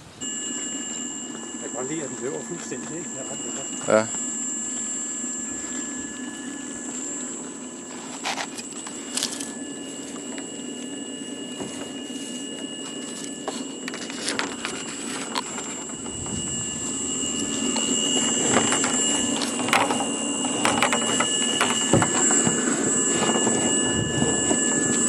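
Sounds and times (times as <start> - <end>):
motor hum with high whine: 0.0 - 25.0.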